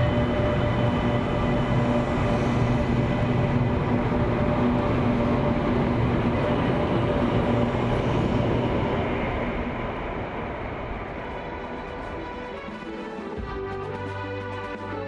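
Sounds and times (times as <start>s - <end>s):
train rolling noise: 0.0s - 15.0s.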